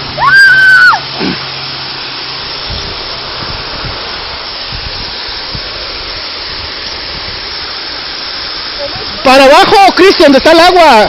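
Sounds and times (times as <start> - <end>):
waterfall splashing onto rocks: 0.0 - 11.0.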